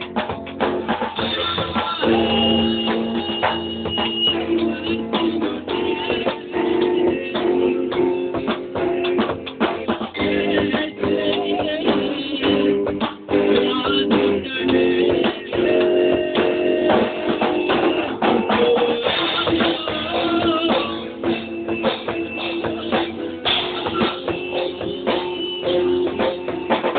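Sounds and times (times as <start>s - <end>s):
drum kit: 0.0s - 26.9s
electric guitar: 0.0s - 26.9s
rock band playing: 0.0s - 26.9s.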